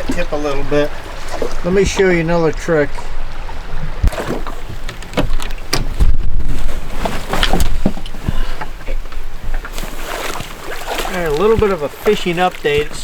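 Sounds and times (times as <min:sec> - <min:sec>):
knocks and bumps on a boat: 0:00.0 - 0:13.0.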